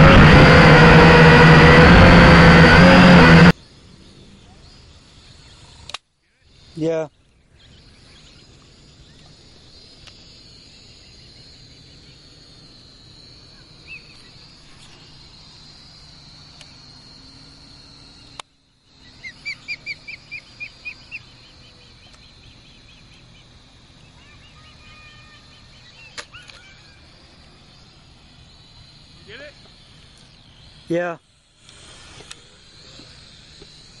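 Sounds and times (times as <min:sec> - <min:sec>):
steady high-pitched whine: 0:00.0 - 0:34.0
osprey whistled chirps: 0:03.6 - 0:31.2.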